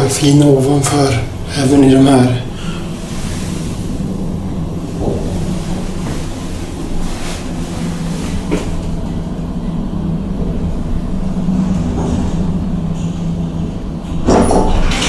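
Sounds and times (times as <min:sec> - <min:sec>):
elevator hum and rumble: 0:00.0 - 0:15.0.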